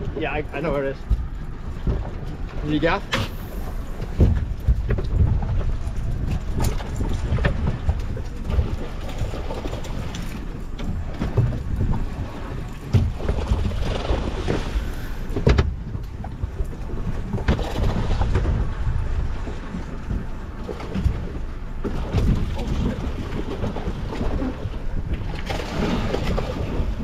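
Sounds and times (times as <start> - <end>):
water slapping boat hull: 0.0 - 27.0
wind buffeting microphone: 0.0 - 27.0.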